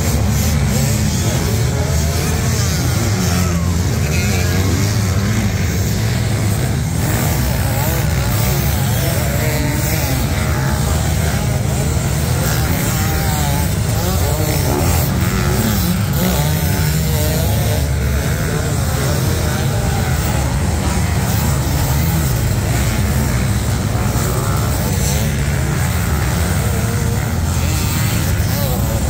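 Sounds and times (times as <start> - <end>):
motocross bikes revving: 0.0 - 29.0.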